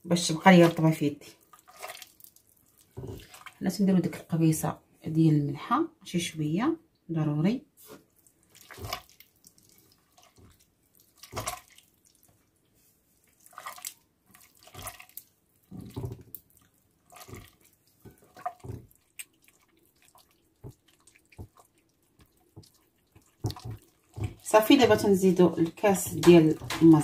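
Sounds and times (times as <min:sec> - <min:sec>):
hand squishing butter in dish: 0:00.2 - 0:04.3, 0:07.8 - 0:27.0.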